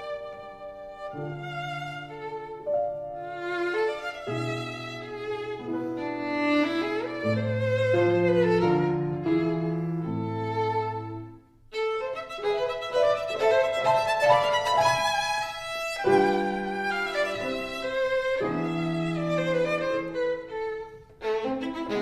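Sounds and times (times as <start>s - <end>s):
violin melody: 0.0s - 22.0s.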